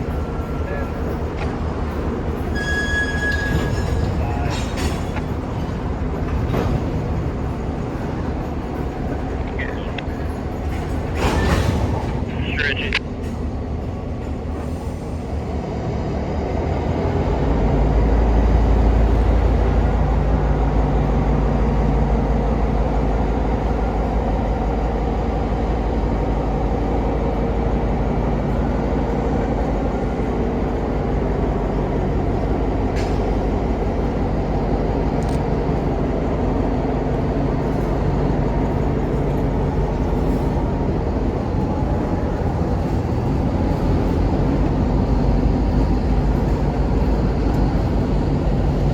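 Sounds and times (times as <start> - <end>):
diesel locomotive engine rumbling: 0.0 - 48.9.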